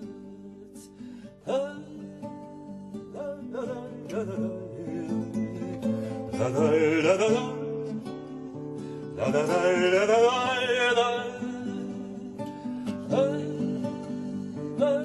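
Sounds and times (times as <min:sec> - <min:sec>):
acoustic guitar: 0:00.0 - 0:15.0
man singing with vibrato: 0:00.0 - 0:15.0.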